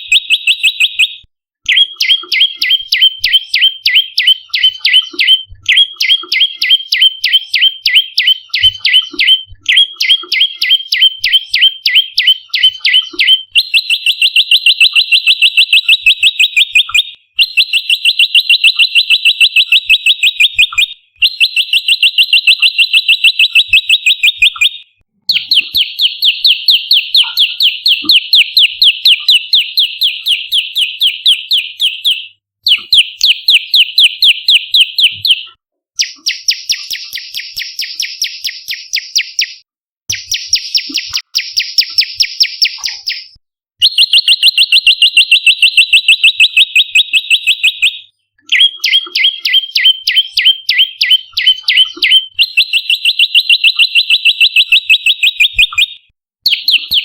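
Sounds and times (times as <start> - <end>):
bird calling high chirps: 0.0 - 57.0.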